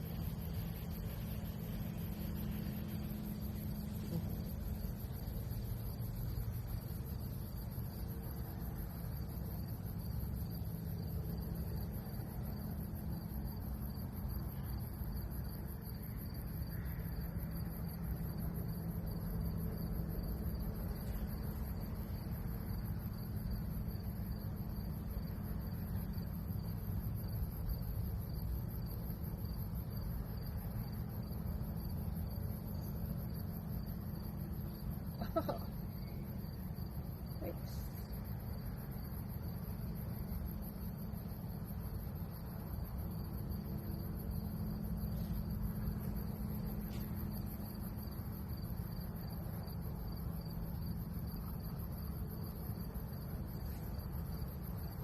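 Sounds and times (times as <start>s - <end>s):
constant low rumble: 0.0s - 55.0s
insects droning: 0.0s - 55.0s.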